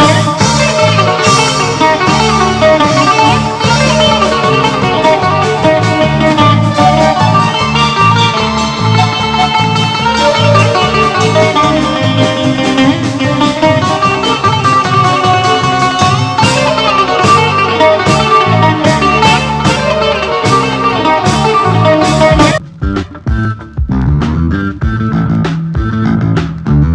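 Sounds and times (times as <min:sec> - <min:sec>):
bouzouki picking a melody: 0:00.0 - 0:23.8
rhythmic bass accompaniment: 0:00.0 - 0:26.9.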